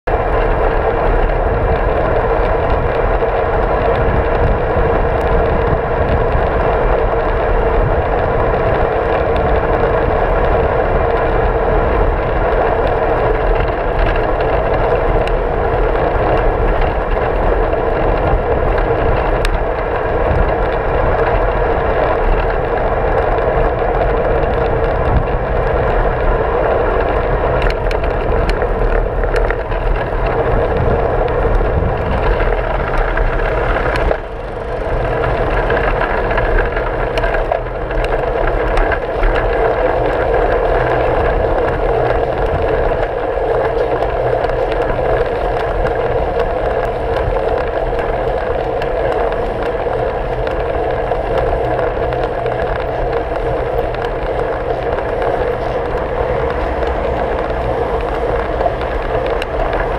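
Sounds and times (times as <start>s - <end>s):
road noise: 0.0s - 59.9s
wind rush: 0.0s - 59.9s.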